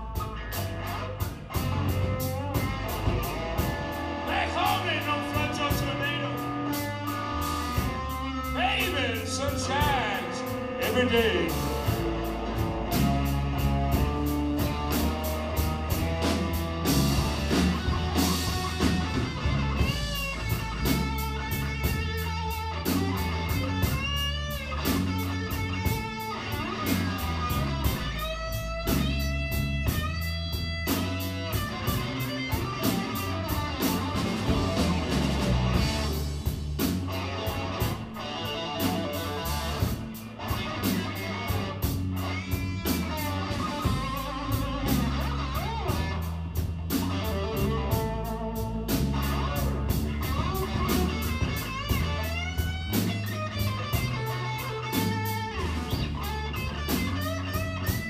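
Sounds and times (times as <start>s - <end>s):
bass guitar: 0.0s - 58.0s
drums: 0.0s - 58.0s
electric guitar solo: 0.0s - 58.0s.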